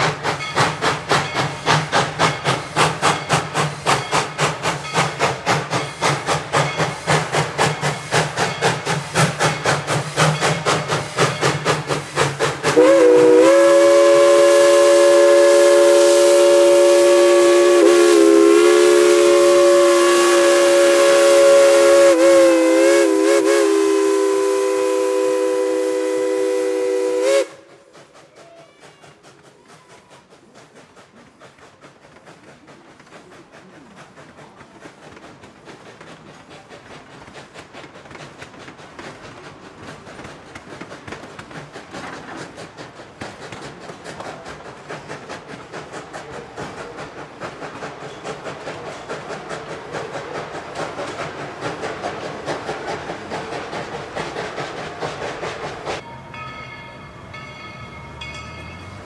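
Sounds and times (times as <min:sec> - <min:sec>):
steam locomotive exhaust chuffing: 0:00.0 - 0:59.0.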